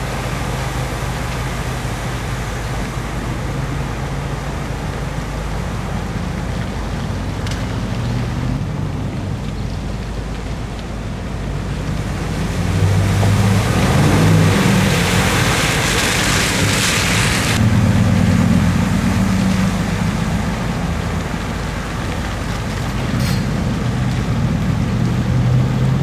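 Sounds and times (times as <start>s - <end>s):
truck engines running: 0.0s - 26.0s
water splashing from tyres: 0.0s - 26.0s.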